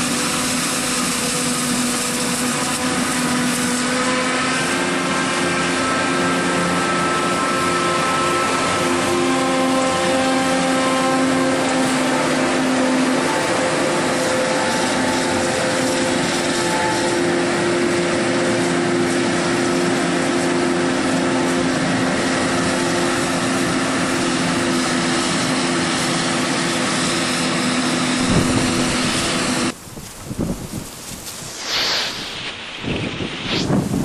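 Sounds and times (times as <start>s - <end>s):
forage harvester running: 0.0s - 34.0s.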